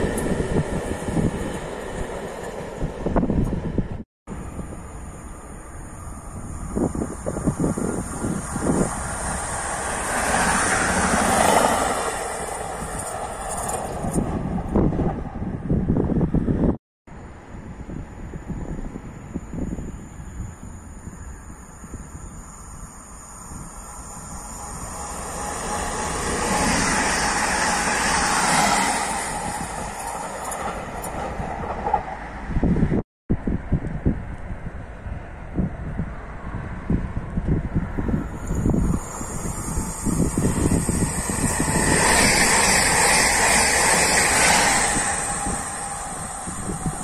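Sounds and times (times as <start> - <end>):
wind buffeting microphone: 0.0 - 16.8, 17.4 - 47.0
train rumbling past: 0.0 - 47.0.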